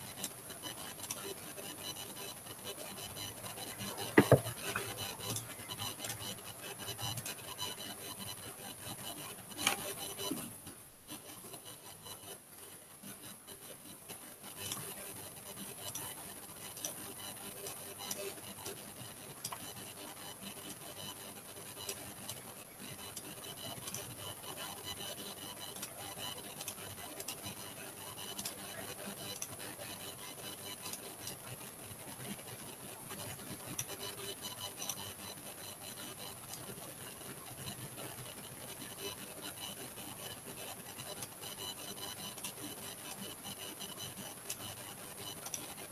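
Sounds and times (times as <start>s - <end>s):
steady electrical hiss: 0.0s - 45.9s.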